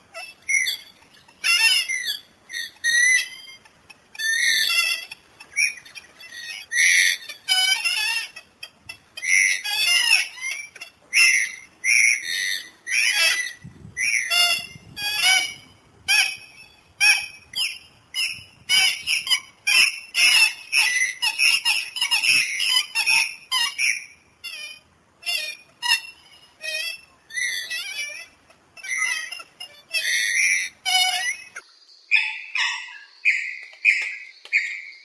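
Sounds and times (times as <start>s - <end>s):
moorhen calling: 0.0s - 35.0s.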